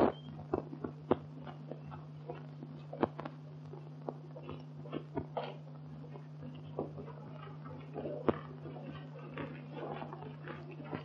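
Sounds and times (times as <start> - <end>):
clicks and crackle: 0.0 - 11.0
faint low hum: 0.0 - 11.0.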